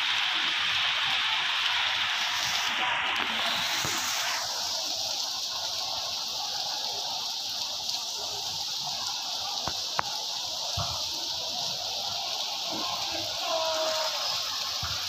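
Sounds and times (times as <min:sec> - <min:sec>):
torrential rain hissing: 0:00.0 - 0:15.0.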